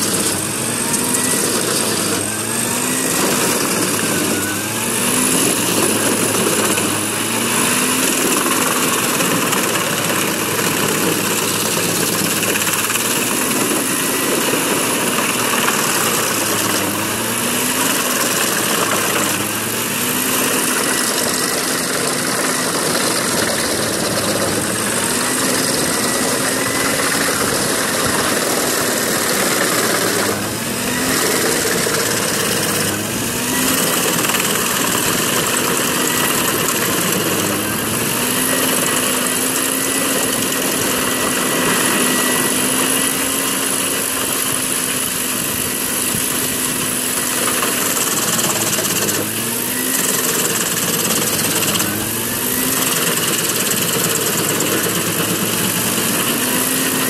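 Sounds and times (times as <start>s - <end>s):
wood chipper grinding logs: 0.0s - 57.0s.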